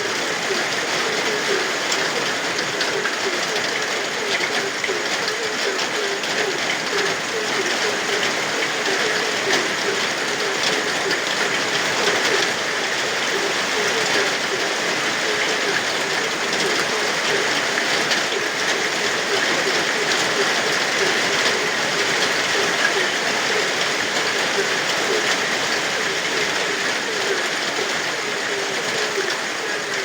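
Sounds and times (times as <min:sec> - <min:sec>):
frogs croaking: 0:00.0 - 0:30.0
steady rain falling: 0:00.0 - 0:30.0.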